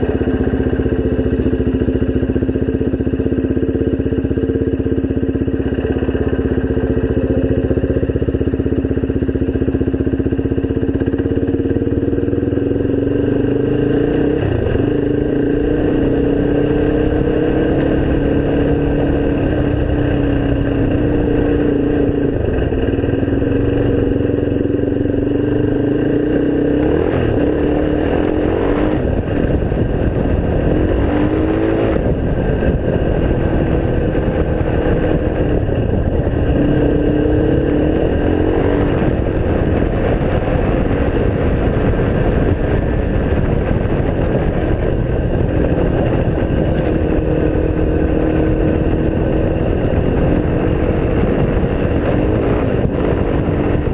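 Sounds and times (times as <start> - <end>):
off-road engine revving: 0.0 - 53.9.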